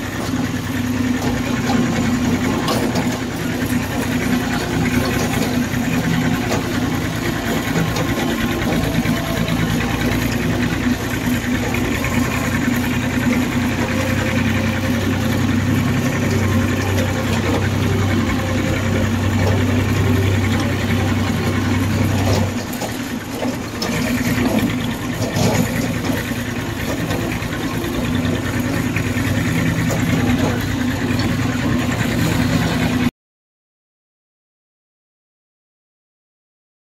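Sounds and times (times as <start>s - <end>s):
tractor diesel engine running: 0.0s - 33.1s.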